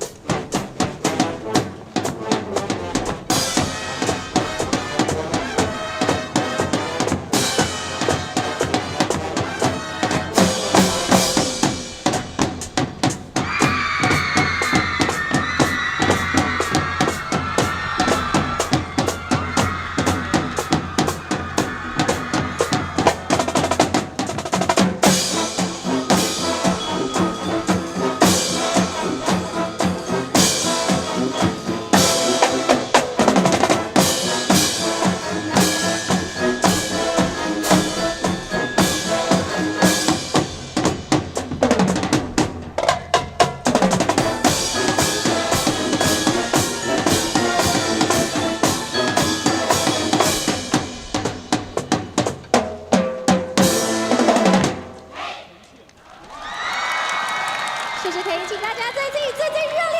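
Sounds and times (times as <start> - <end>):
wind band playing: 0.0 - 42.6, 43.5 - 52.6, 53.6 - 55.4
drums beating rhythm: 0.0 - 55.4, 56.3 - 59.9.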